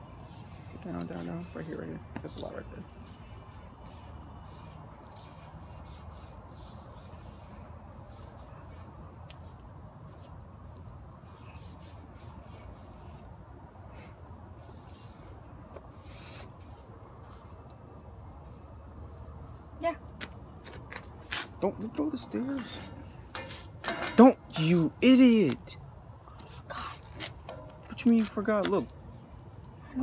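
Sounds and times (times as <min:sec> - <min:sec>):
broom brushing paint: 0:00.0 - 0:13.4, 0:14.5 - 0:19.9, 0:22.2 - 0:25.6, 0:26.4 - 0:30.0.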